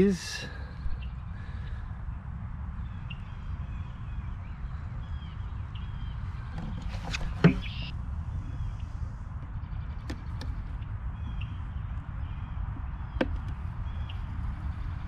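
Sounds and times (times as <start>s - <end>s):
wind rumble on microphone: 0.0s - 15.0s
faint bird chirps: 2.8s - 15.0s.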